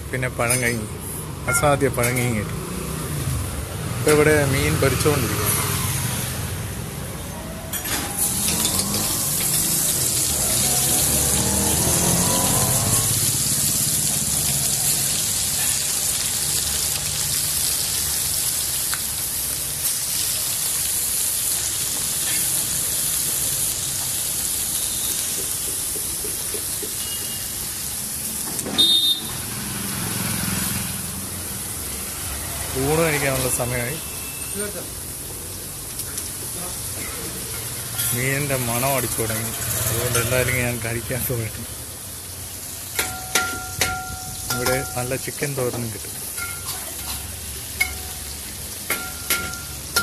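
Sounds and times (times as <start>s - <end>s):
fish sizzling in hot oil: 2.8s - 6.9s, 8.1s - 50.0s.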